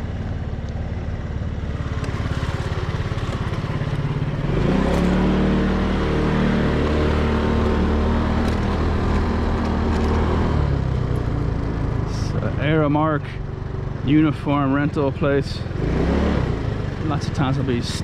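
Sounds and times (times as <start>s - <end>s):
vehicle engine revving: 0.0s - 13.2s, 14.0s - 18.0s.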